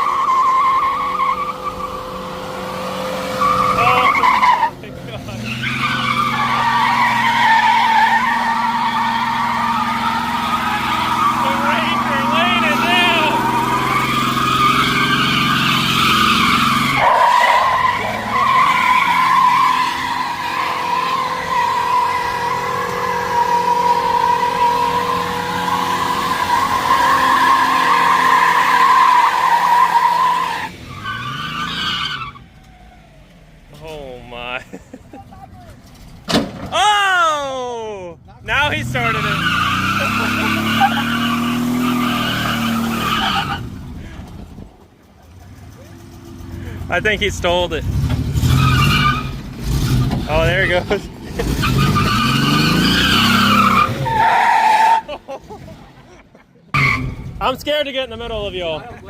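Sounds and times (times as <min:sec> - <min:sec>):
truck engine revving: 0:00.0 - 0:35.1, 0:38.4 - 0:58.7
tires squealing: 0:00.0 - 0:59.0.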